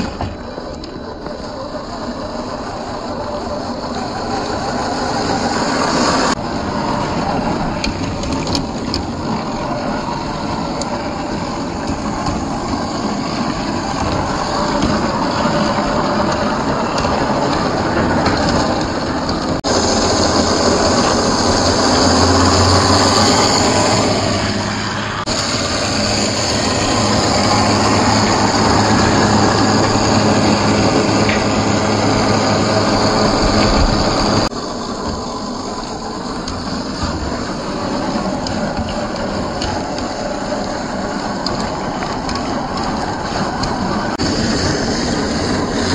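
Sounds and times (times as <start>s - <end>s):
toy car motor whining: 0.0s - 45.9s.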